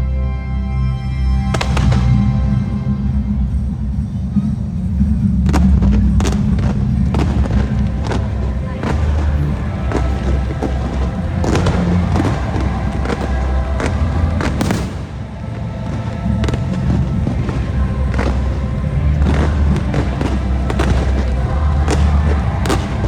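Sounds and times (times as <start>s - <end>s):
bass-heavy music: 0.0s - 23.0s
fireworks bangs and crackling: 1.5s - 23.0s.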